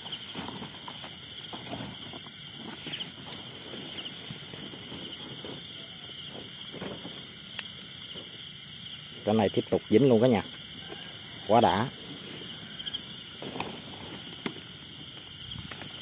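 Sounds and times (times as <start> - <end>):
crickets and insects chirring: 0.0 - 16.0.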